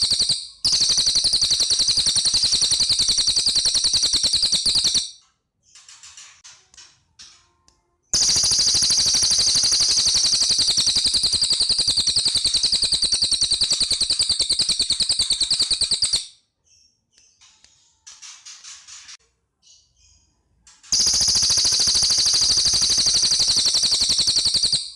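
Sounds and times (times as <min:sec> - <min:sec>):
soft bird chirps: 0:00.0 - 0:06.4, 0:07.0 - 0:24.9
rapid rattling bird song: 0:00.0 - 0:24.9.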